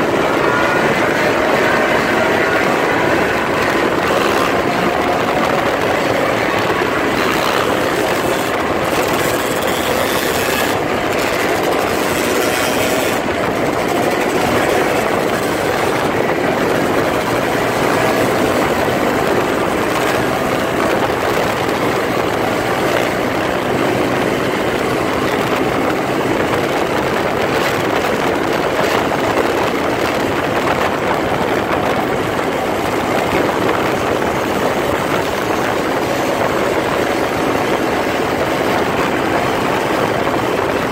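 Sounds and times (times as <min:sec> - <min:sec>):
motorcycle engines running: 0:00.0 - 0:40.9
wind rushing over microphone: 0:00.0 - 0:40.9.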